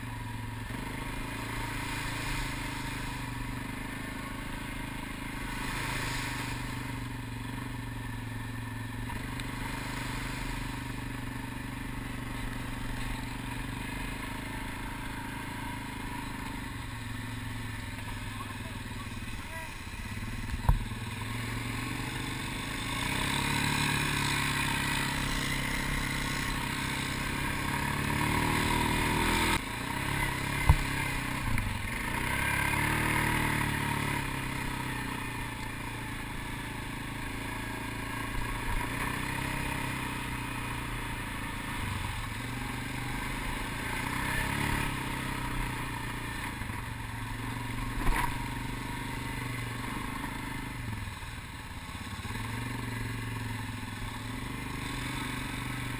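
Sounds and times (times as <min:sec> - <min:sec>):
atv engine revving: 0:00.0 - 0:55.9.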